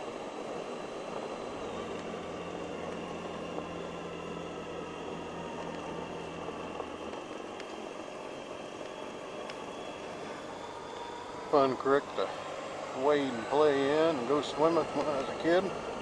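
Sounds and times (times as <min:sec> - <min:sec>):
engine hum: 0:00.0 - 0:16.0
road noise: 0:00.0 - 0:16.0.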